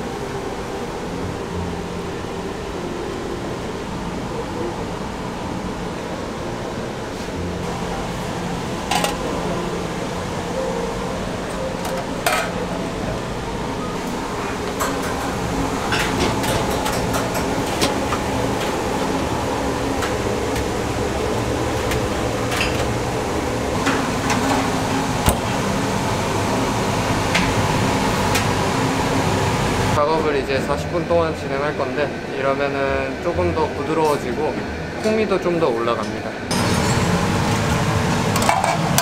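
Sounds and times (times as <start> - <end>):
ventilation machinery humming: 0.0 - 39.0.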